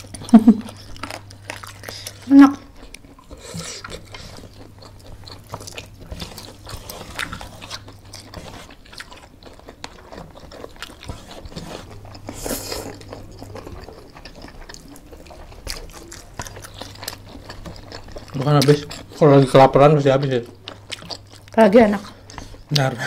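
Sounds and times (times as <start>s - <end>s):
biting and chewing food: 0.0s - 23.0s.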